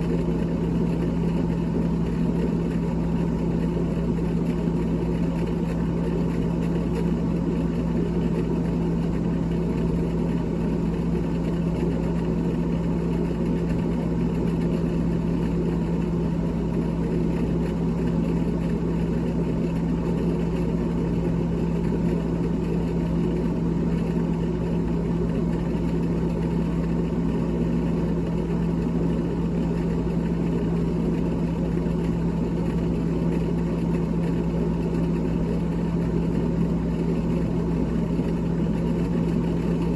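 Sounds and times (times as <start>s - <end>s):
freezer fan humming: 0.0s - 39.9s.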